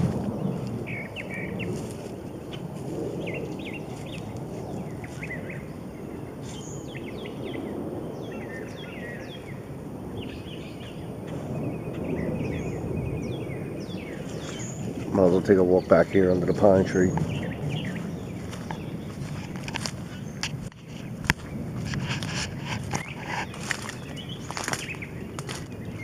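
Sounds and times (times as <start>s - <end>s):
low outdoor rumble: 0.0s - 26.0s
songbirds chirping: 0.0s - 26.0s.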